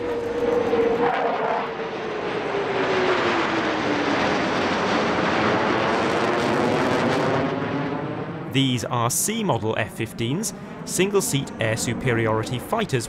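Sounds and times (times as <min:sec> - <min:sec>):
fighter jets roaring overhead: 0:00.0 - 0:13.0
jet engine whine sliding down: 0:00.0 - 0:13.0.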